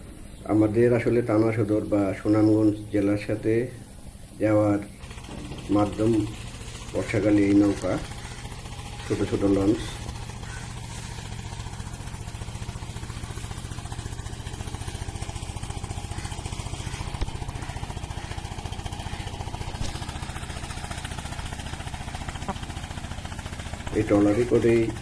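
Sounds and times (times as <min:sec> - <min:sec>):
boat diesel engine chugging: 0:00.2 - 0:25.0.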